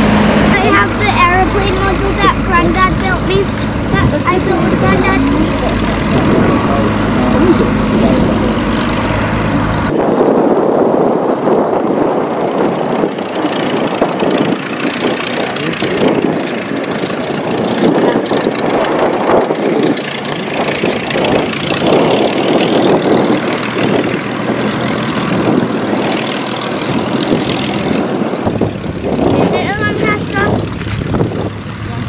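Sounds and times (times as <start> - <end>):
propeller aircraft engine rumbling: 0.0 - 32.0.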